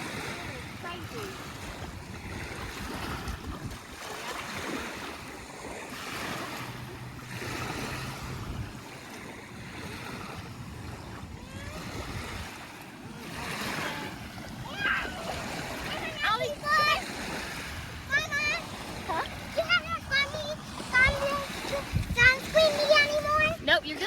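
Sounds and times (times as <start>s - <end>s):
small waves washing ashore: 0.0s - 24.0s
wind rumbling on microphone: 0.0s - 24.0s.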